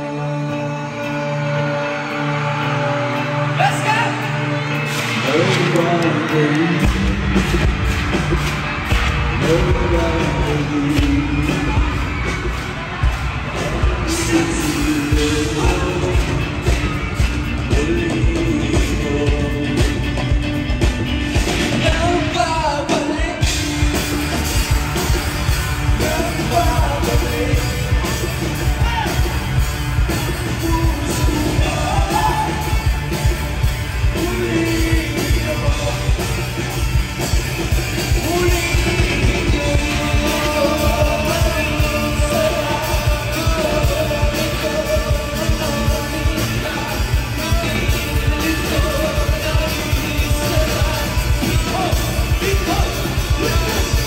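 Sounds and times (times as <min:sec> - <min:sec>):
person singing lead vocal: 0:00.0 - 0:07.8, 0:09.2 - 0:12.6, 0:13.5 - 0:54.0
live rock band playing: 0:00.0 - 0:54.0
steady drum beat: 0:04.8 - 0:54.0.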